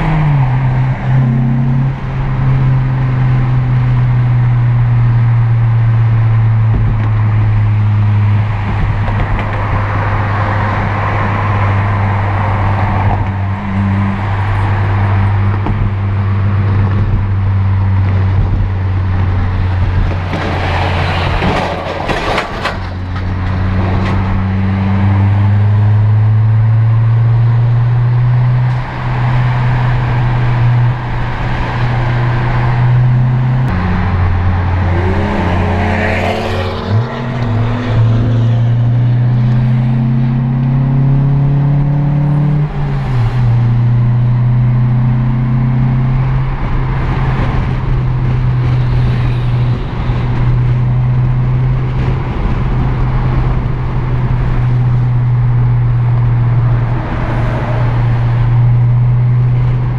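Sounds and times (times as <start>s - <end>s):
car engine droning: 0.0s - 59.9s
tyre and road noise: 0.0s - 59.9s.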